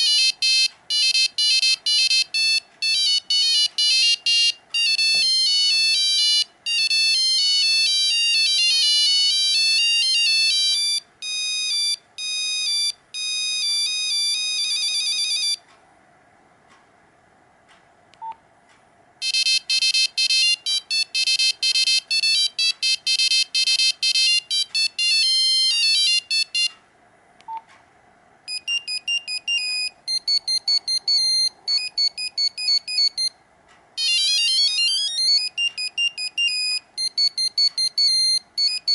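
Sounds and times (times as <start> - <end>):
monophonic phone ringtone melody: 0.0 - 15.6, 19.2 - 26.8, 28.5 - 33.4, 34.0 - 38.9.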